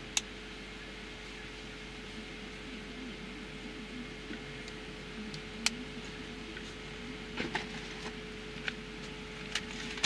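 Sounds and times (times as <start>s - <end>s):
faint constant tone: 0.0s - 10.0s.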